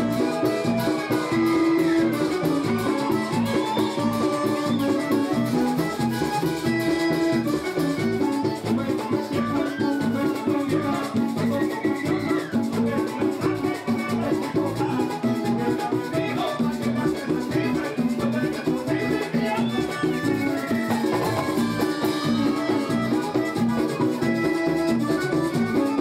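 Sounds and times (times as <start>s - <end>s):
button accordion: 0.0s - 26.0s
electric bass: 0.0s - 26.0s
live band playing: 0.0s - 26.0s
percussion beat: 0.0s - 26.0s.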